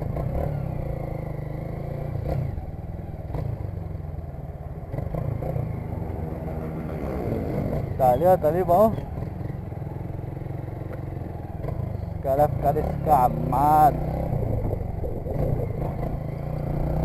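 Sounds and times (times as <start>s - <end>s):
motorcycle engine idling: 0.0s - 7.0s, 7.8s - 17.0s.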